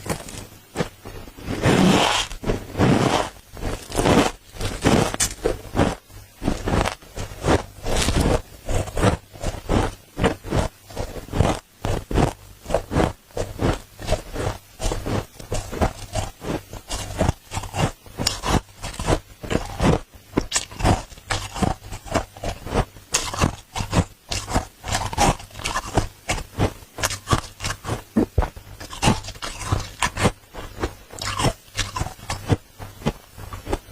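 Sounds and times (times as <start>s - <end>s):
freezer frost crunching: 0.0s - 33.9s.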